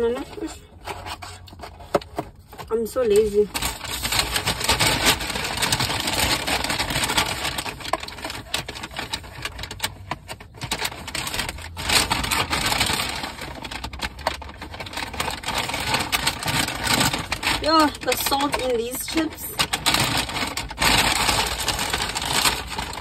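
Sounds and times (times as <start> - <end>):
food packaging crinkling: 0.0 - 23.0.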